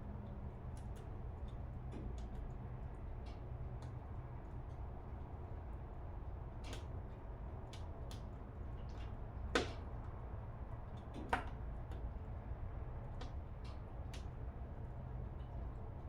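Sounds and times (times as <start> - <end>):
steady low rumble: 0.0 - 16.0
wood fire crackling: 0.3 - 16.0.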